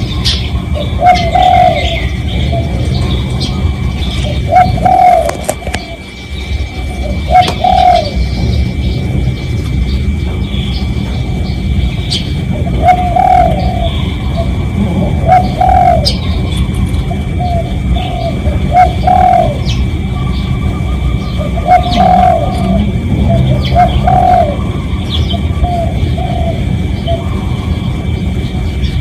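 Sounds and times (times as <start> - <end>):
dove cooing: 0.0 - 28.9
small birds chirping: 0.0 - 29.0.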